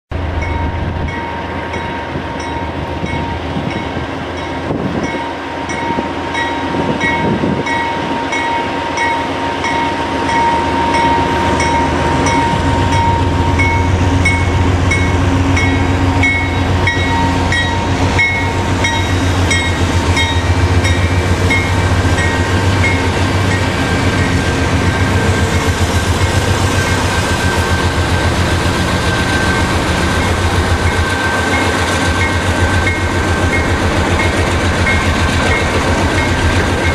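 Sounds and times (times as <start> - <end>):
diesel locomotive engine rumble: 0.1 - 36.9
locomotive bell ringing: 0.2 - 36.9.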